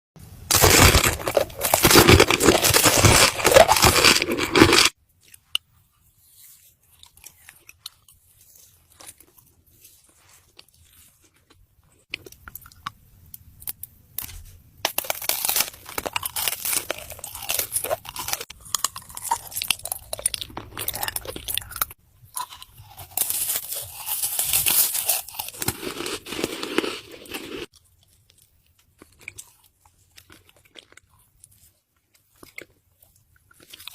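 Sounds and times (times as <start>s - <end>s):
crunching bites and chewing: 0.5s - 5.6s, 6.8s - 33.9s.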